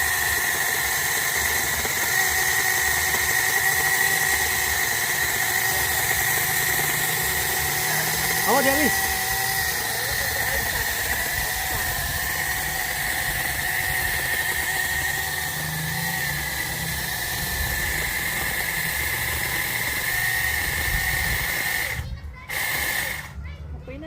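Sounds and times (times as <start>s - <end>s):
battery chainsaw whining: 0.0s - 23.4s.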